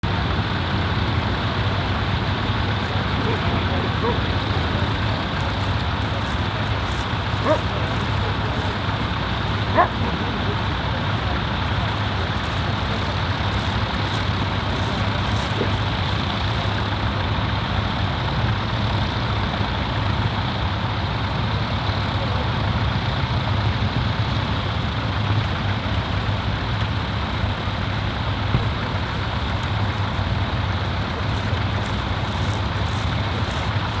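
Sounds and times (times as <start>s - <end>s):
tractor engine droning: 0.0s - 34.0s.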